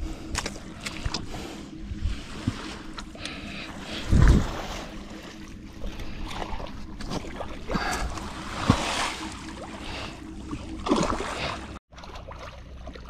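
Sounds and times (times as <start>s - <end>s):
water splashing around boat: 0.0s - 13.0s.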